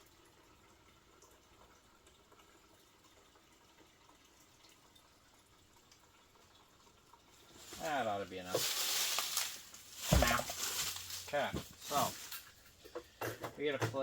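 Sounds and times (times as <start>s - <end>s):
gasoline trickling: 0.0s - 14.0s.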